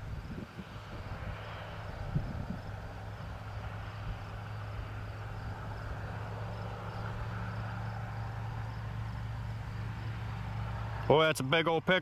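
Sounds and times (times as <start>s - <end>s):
insects chirping: 0.0s - 11.3s
diesel engine hum: 0.0s - 12.0s.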